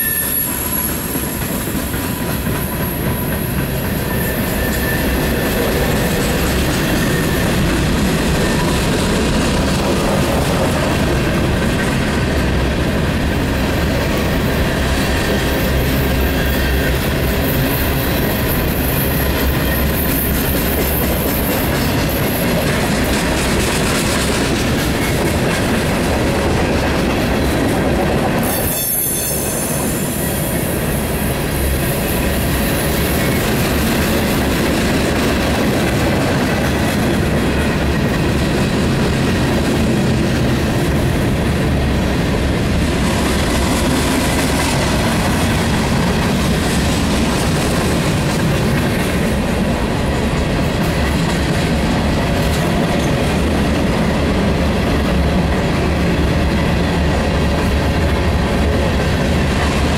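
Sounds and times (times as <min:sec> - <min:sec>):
freight train wheels on rail: 0:00.0 - 0:59.9.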